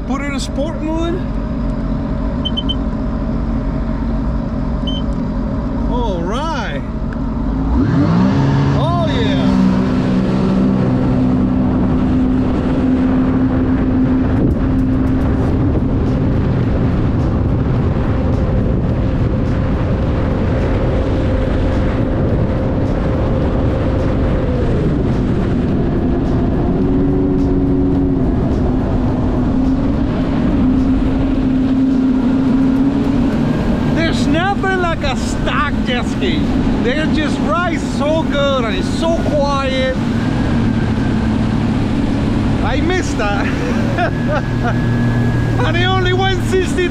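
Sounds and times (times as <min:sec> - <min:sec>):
rush of wind and water: 0:00.0 - 0:46.9
watercraft engine at high speed: 0:00.0 - 0:46.9.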